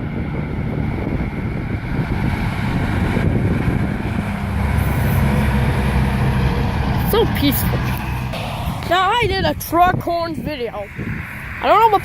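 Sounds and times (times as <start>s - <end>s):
heavy vehicle engine drone: 0.0s - 12.0s
vehicles rumbling past: 0.0s - 12.0s
wind on microphone: 0.0s - 12.0s.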